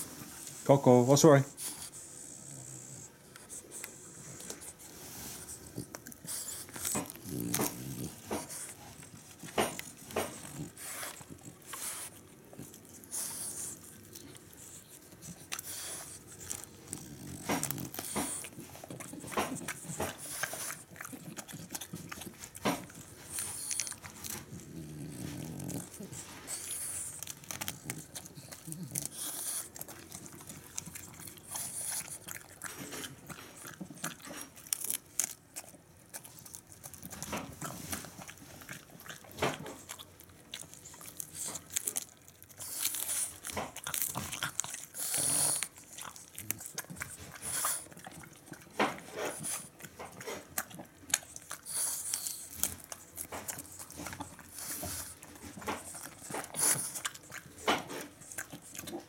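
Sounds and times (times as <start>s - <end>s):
dog chewing cabbage leaf: 0.0s - 59.0s.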